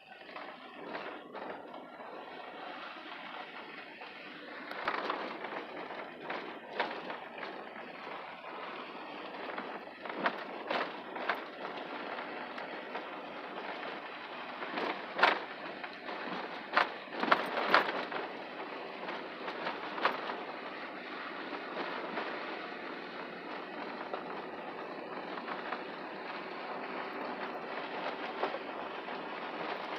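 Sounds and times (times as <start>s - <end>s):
car road noise on dirt road: 0.0s - 29.9s
knocks and rattles over bumps: 4.6s - 29.9s.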